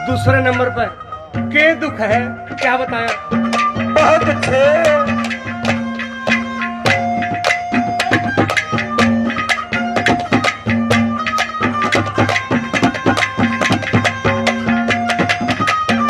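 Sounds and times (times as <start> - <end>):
melody instrument holding notes: 0.0 - 16.0
rapid hand-drum strokes: 0.0 - 16.0.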